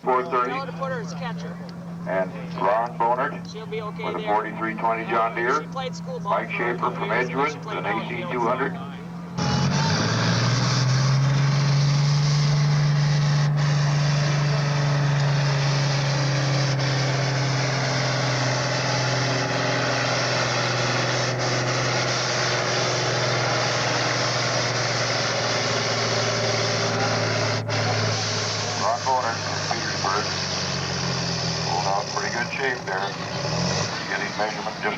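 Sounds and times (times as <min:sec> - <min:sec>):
tractor engine running under load: 0:00.0 - 0:34.9.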